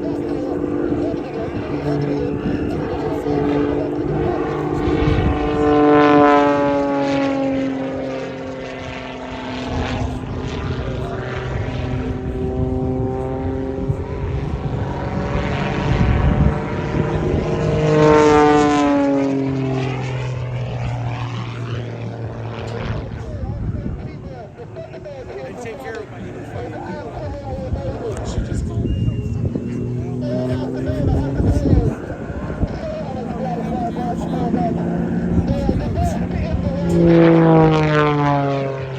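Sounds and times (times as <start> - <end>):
propeller plane passing by: 0.0 - 38.9.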